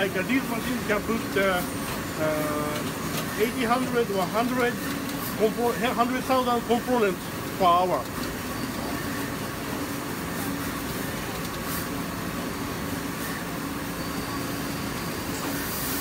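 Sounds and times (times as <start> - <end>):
machines humming and whirring: 0.0 - 16.0.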